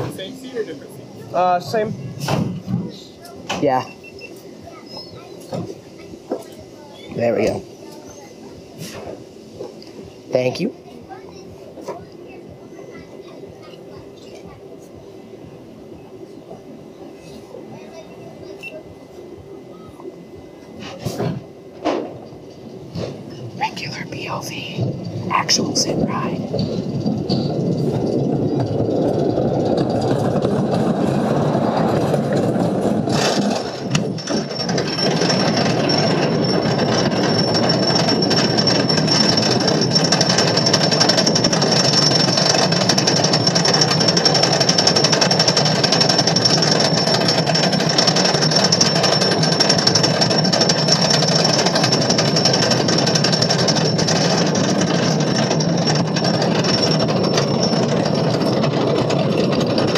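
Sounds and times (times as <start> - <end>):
roller coaster rumble and clatter: 0.0 - 59.9.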